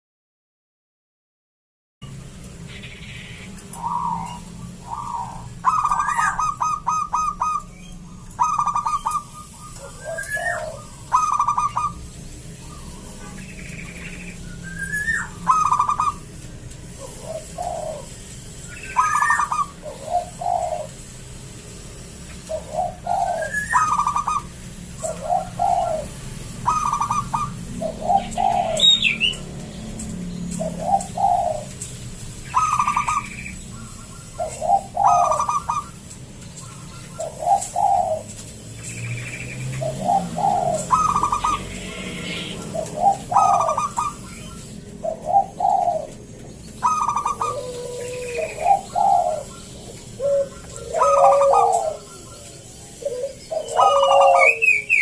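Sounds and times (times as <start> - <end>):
dove cooing: 3.1 - 21.2, 21.8 - 55.0.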